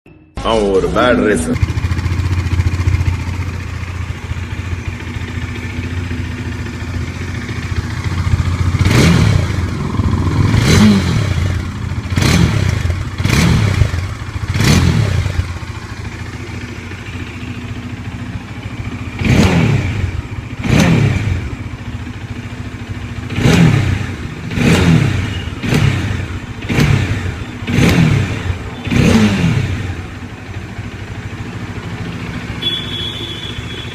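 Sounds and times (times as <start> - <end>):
motorcycle engine idling: 1.2 - 33.9
motorcycle engine revving: 1.2 - 33.9.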